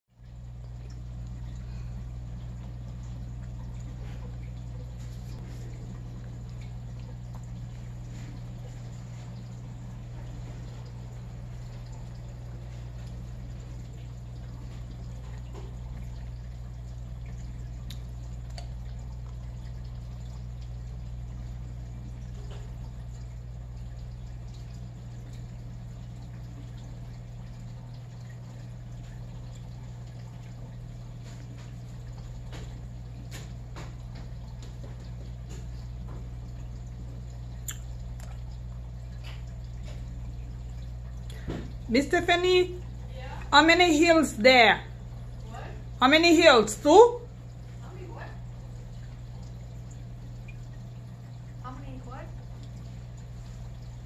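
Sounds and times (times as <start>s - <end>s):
pump hum: 0.1s - 54.0s
faint water drips: 0.2s - 54.0s
water trickling: 0.2s - 54.0s.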